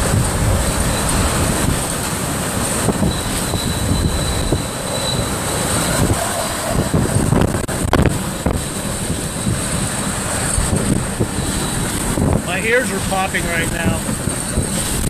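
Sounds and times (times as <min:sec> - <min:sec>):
wind buffeting a car: 0:00.0 - 0:15.0.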